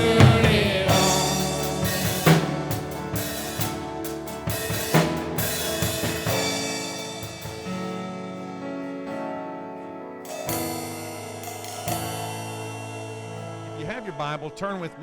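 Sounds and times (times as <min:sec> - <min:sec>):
drum kit hits: 0:00.0 - 0:08.8, 0:10.3 - 0:13.7
held band chords ringing: 0:00.0 - 0:15.0.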